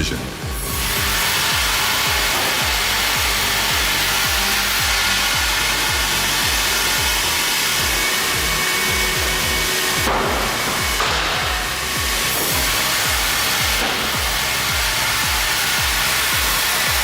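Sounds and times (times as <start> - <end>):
background music with bass beat: 0.0 - 17.0
bandsaw cutting wood: 0.0 - 17.0.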